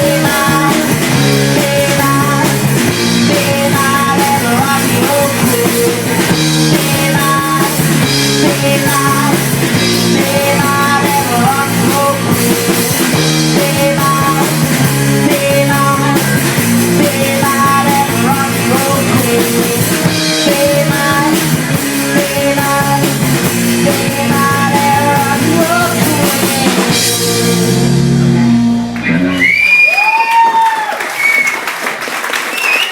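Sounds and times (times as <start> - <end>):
rock band playing loud: 0.0 - 32.0.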